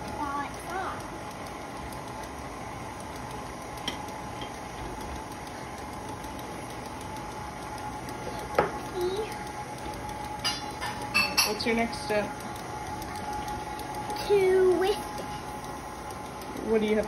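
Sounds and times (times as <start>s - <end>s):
stand mixer running: 0.0s - 17.0s.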